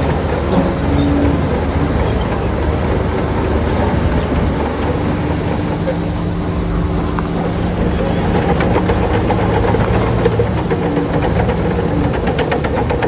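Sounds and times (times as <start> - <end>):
diesel engine running: 0.0 - 13.0
rapid short clicks or rattles: 0.0 - 13.0.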